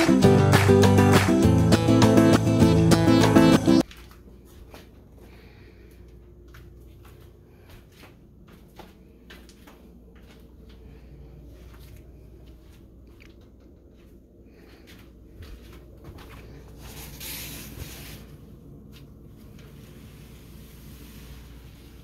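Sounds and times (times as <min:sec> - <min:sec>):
steady low hum: 0:03.8 - 0:22.0.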